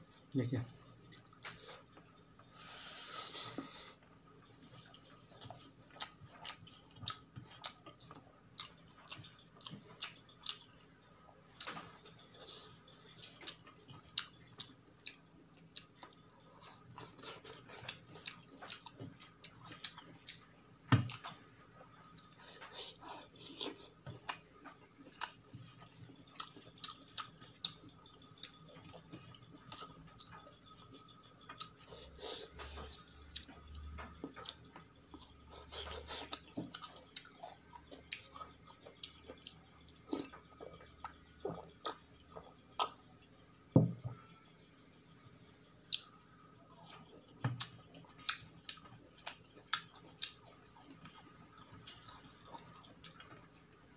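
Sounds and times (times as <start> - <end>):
person chewing: 1.0 - 10.8, 11.5 - 21.4, 22.0 - 43.1, 46.7 - 53.8.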